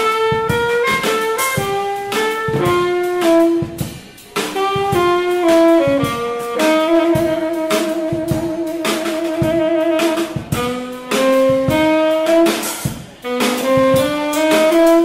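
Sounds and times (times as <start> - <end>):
drum kit: 0.0 - 15.0
saxophone melody: 0.0 - 15.0.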